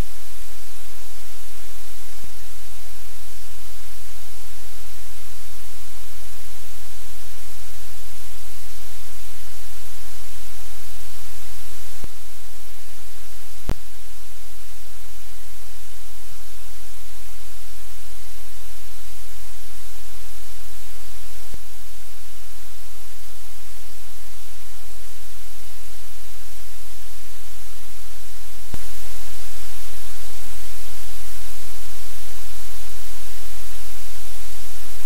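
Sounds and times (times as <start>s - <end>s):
microphone hiss: 0.0s - 35.0s.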